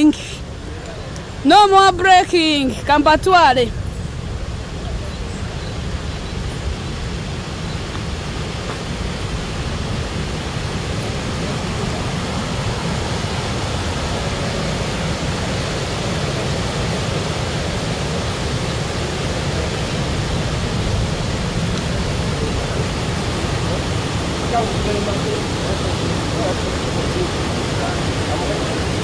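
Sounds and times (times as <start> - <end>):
river rushing over boulders: 0.0 - 29.0.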